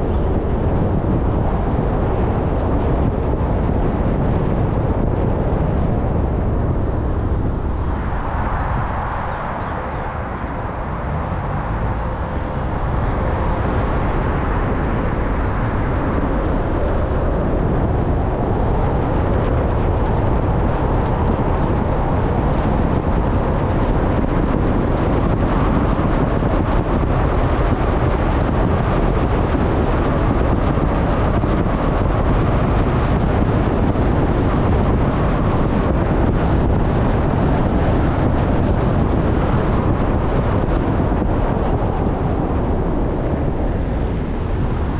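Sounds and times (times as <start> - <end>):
wind hiss on microphone: 0.0 - 44.9.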